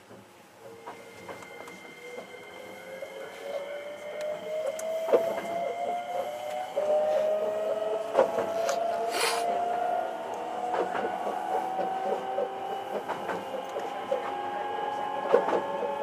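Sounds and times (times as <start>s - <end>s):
electric train motors whining: 0.6s - 16.0s.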